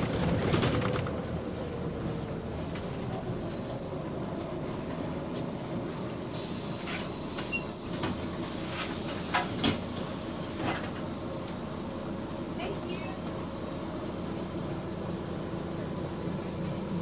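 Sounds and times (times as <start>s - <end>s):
bus running rumble: 0.0s - 17.0s.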